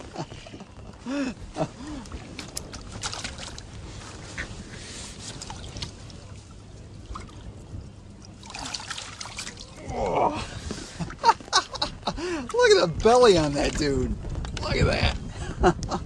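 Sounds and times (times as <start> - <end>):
water splashing: 0.0 - 13.9
water trickling and sloshing: 0.0 - 14.8.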